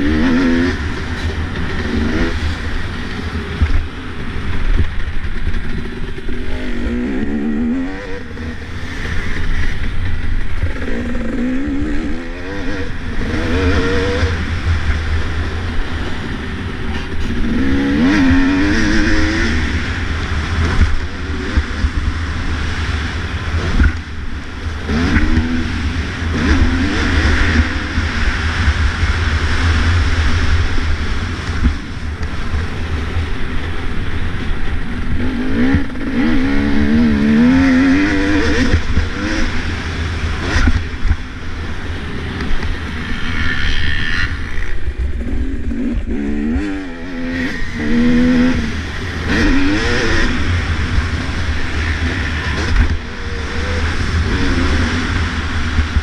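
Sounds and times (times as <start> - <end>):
dirt bike engine revving: 0.0 - 33.8, 34.4 - 56.0.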